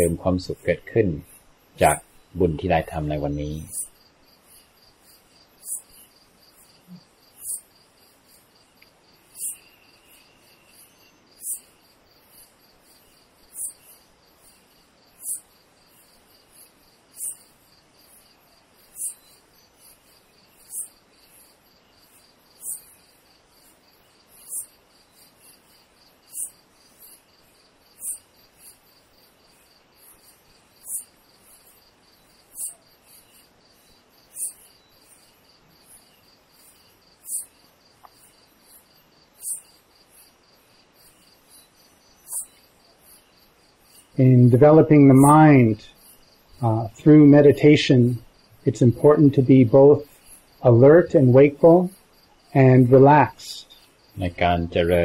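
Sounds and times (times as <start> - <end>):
insect high trill: 0.0 - 55.0
shrill insect chirp: 0.0 - 55.0.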